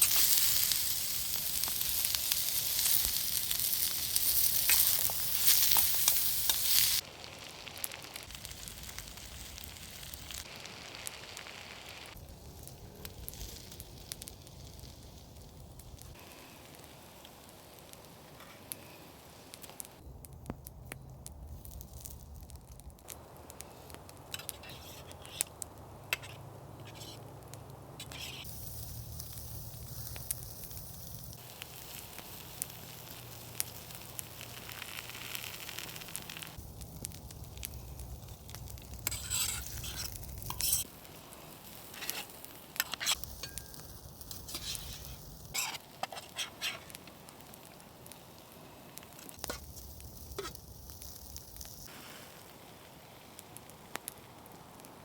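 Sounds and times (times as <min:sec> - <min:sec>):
burning wood crackling and popping: 0:00.0 - 0:55.0
food sizzling over campfire: 0:00.0 - 0:55.0.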